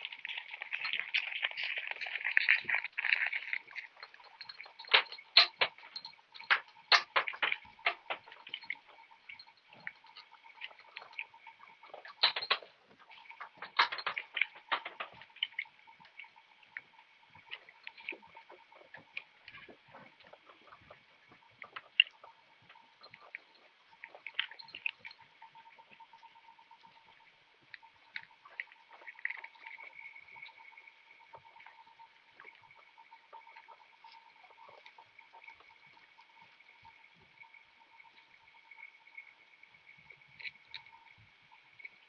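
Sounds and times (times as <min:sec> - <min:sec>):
faint high whine: 0:00.0 - 0:42.0.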